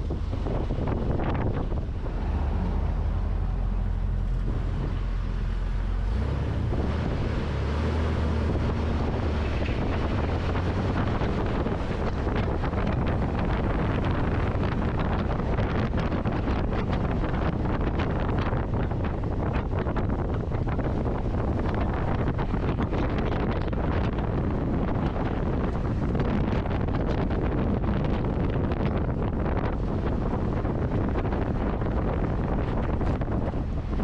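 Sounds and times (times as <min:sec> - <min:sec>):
vehicle rumble on road: 0:00.0 - 0:34.0
wind buffeting microphone: 0:00.0 - 0:34.0.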